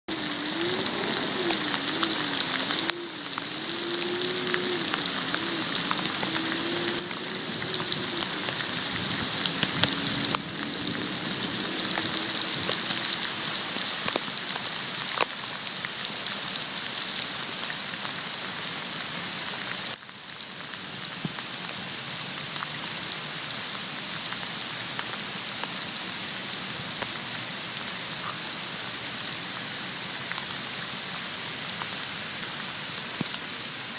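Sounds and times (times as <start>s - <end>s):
heavy rain: 0.0s - 33.9s
rushing floodwater: 0.1s - 33.9s.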